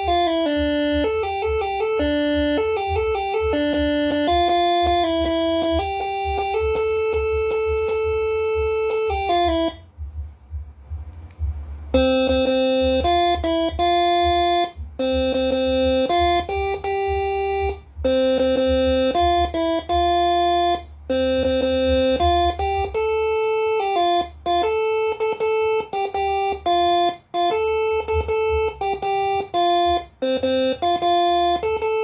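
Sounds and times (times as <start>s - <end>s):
air horn playing chords: 0.0s - 10.3s, 11.4s - 32.0s
steady low hum: 0.0s - 32.0s.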